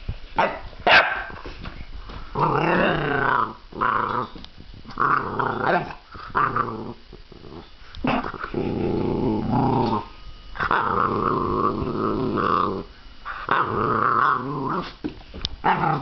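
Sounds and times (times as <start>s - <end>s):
puppy growling: 2.3s - 15.0s, 15.6s - 16.0s.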